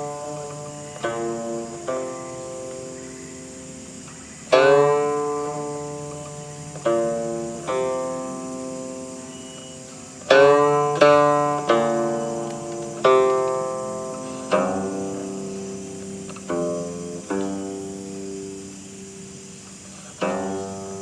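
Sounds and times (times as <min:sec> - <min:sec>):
guqin plucked notes: 0:00.0 - 0:21.0.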